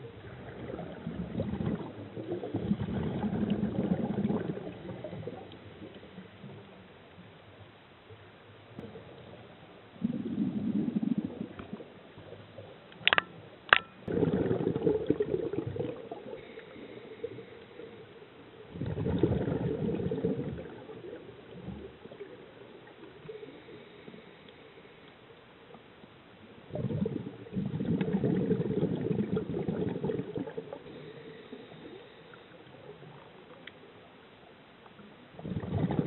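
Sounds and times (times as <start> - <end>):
underwater bubbles gurgling: 0.0 - 7.6, 8.6 - 24.3, 25.7 - 36.0.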